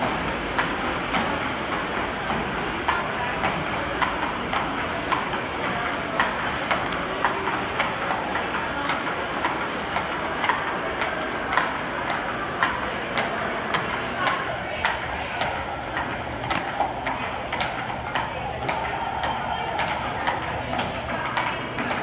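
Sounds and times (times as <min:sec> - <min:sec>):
hooves clip-clopping on concrete: 0:00.0 - 0:22.0
steady background noise: 0:00.0 - 0:22.0.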